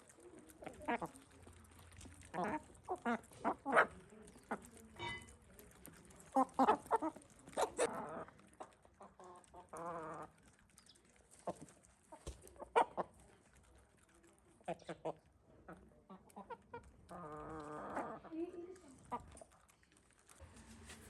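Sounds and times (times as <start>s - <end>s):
chickens clucking: 0.0s - 19.6s.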